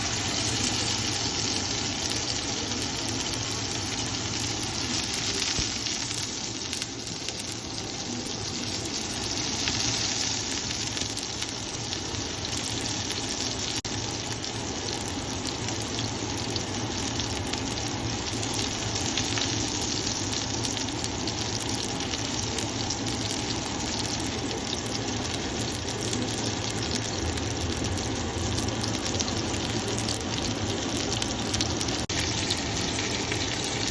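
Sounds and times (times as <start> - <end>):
steak sizzling on hot metal: 0.0 - 33.9.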